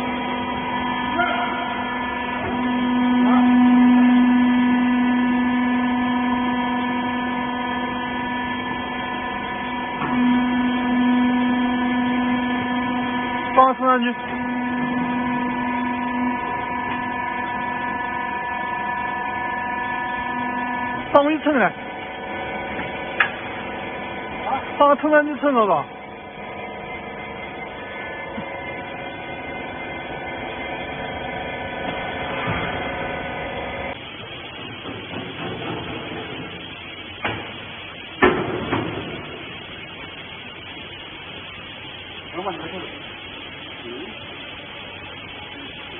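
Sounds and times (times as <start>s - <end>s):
motor and hydraulic pump humming: 0.0s - 45.9s.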